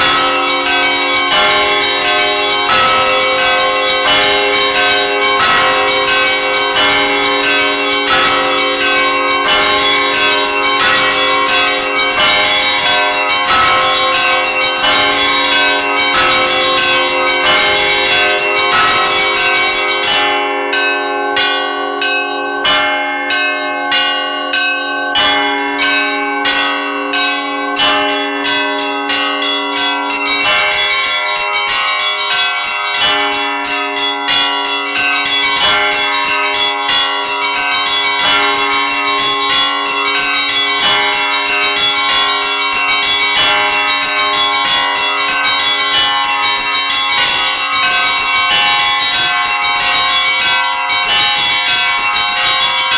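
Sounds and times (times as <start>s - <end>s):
church bells pealing: 0.0s - 52.9s
hum of large bells: 0.0s - 52.9s.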